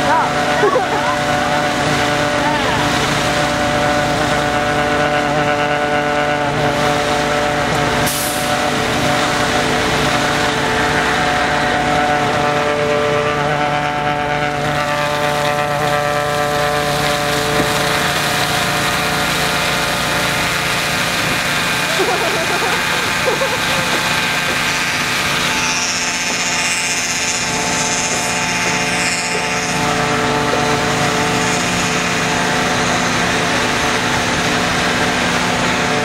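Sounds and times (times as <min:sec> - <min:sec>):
crushed ice rushing through hose: 0:00.0 - 0:36.0
ice-crushing machine drone: 0:00.0 - 0:36.0.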